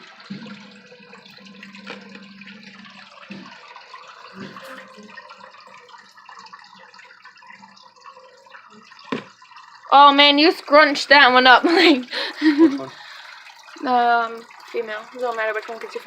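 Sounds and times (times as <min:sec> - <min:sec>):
water trickling in an aquarium: 0:00.0 - 0:16.0.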